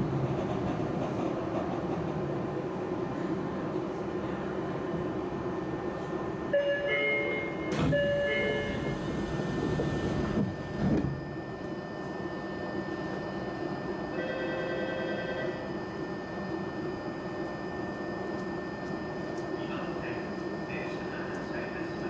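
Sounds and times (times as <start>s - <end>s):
subway train running noise: 0.0s - 22.0s.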